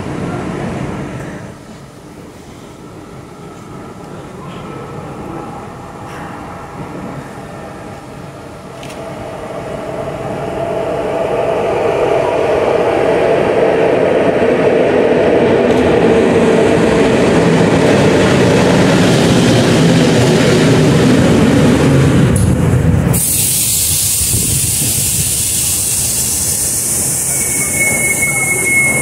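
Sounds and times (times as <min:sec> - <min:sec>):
electric train rumble and hum: 0:00.0 - 0:29.0.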